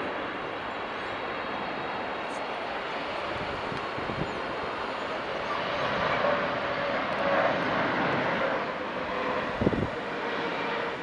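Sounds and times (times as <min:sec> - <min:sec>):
faint jet engine whine: 0:00.0 - 0:11.0
jet engine roar: 0:00.0 - 0:11.0.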